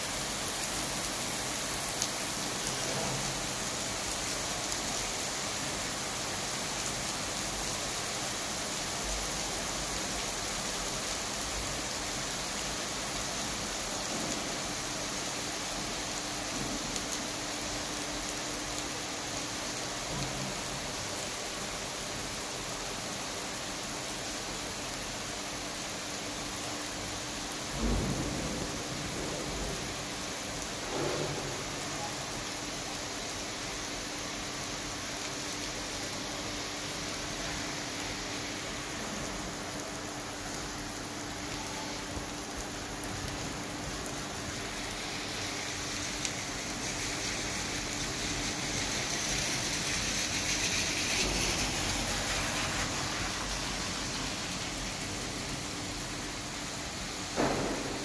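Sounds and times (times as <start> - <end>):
rain on asphalt road: 0.0 - 58.0.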